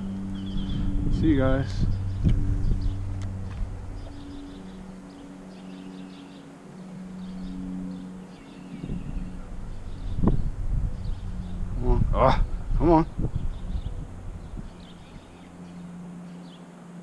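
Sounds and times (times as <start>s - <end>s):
small birds chirping: 0.0s - 16.8s
steady low hum: 0.0s - 17.0s.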